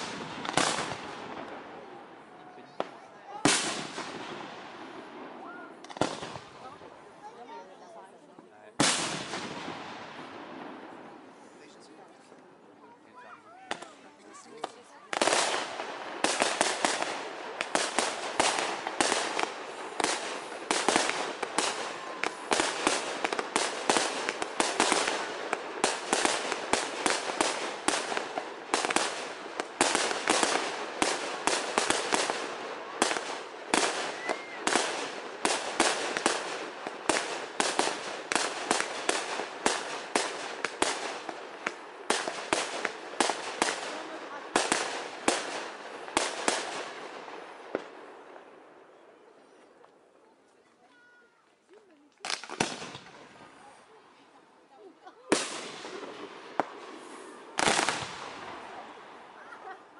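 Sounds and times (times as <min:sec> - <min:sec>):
fireworks bursting: 0:00.0 - 0:11.9, 0:12.6 - 0:49.8, 0:52.1 - 0:53.9, 0:55.3 - 0:59.9.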